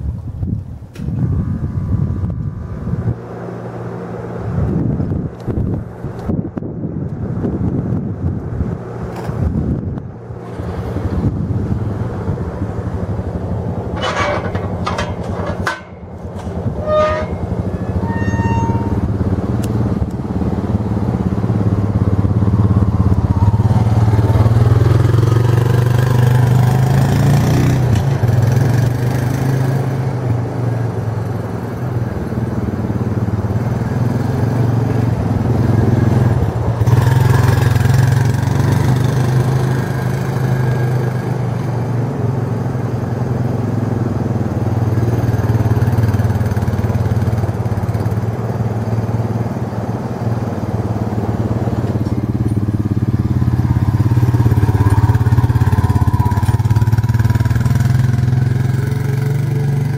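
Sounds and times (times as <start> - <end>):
quad engine droning: 0.0 - 59.9.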